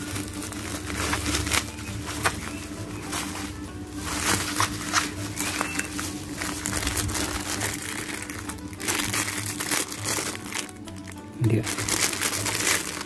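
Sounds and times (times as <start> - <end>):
background music: 0.0 - 13.0
plastic crinkling and rustling: 0.0 - 13.0.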